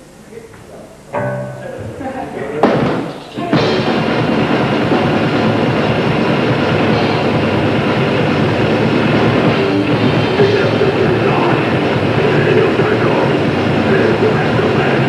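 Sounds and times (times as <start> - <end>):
grindcore band playing live: 1.2 - 15.0.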